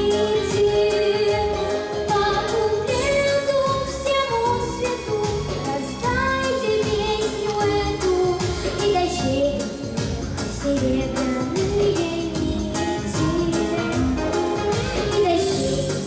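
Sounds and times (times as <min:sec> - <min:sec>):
girl singing: 0:00.0 - 0:16.0
pop backing track: 0:00.0 - 0:16.0.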